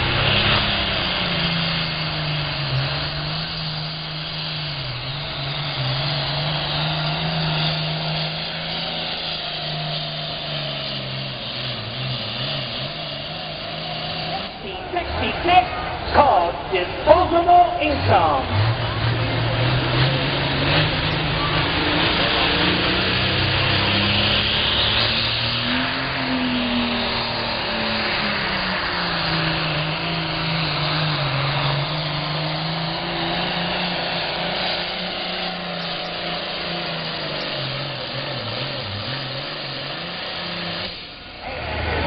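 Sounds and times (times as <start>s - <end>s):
tractor diesel engine at full power: 0.0s - 42.0s.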